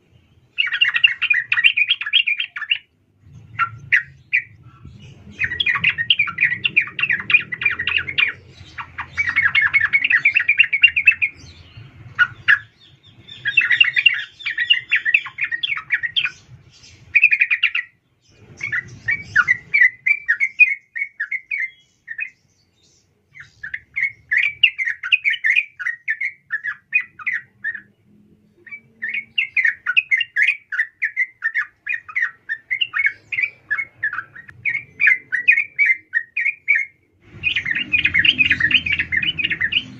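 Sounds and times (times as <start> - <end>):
bulbul chattering call: 0.5 - 27.9, 28.6 - 39.9.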